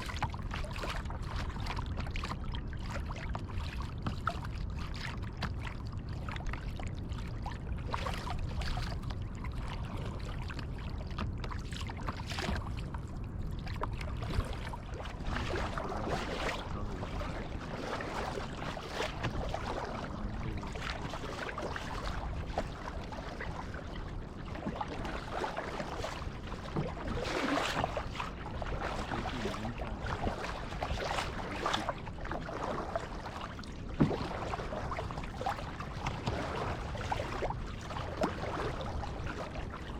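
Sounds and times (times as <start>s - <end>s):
steady low rumble: 0.0s - 27.2s, 27.9s - 36.2s
paddle blades splashing in water: 0.0s - 39.9s
water trickling off paddle: 0.0s - 39.9s.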